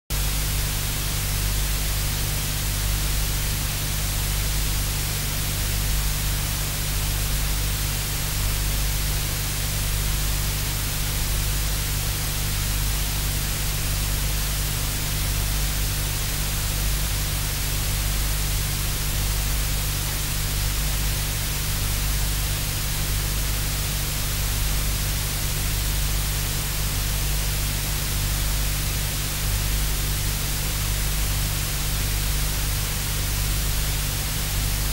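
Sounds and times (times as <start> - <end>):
low electrical hum: 0.1 - 34.9
static hiss: 0.1 - 34.9.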